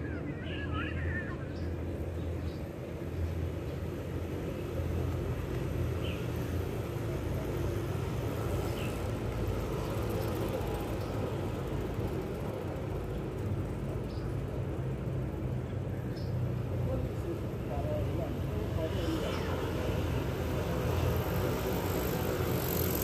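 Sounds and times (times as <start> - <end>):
distant road traffic rumble: 0.0 - 23.0.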